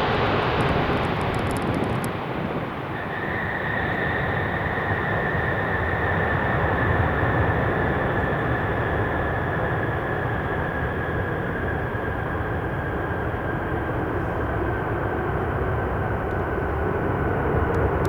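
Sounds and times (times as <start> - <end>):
jet engine high whine: 0.0 - 18.0
jet engines rumbling: 0.0 - 18.0.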